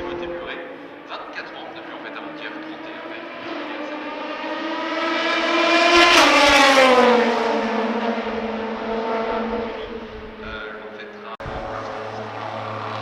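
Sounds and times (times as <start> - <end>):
race car passing at speed: 0.0 - 13.0.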